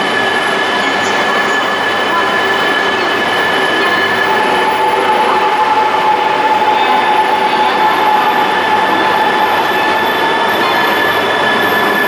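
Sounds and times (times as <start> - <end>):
train rushing noise: 0.0 - 12.0.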